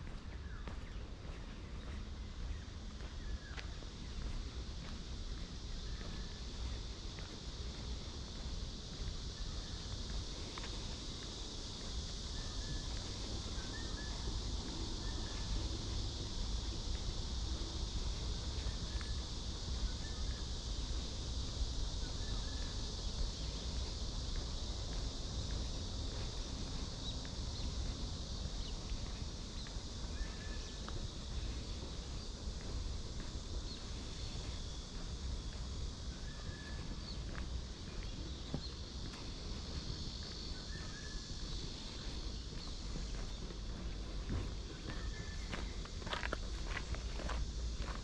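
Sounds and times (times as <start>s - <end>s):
cicadas buzzing: 0.0s - 48.0s.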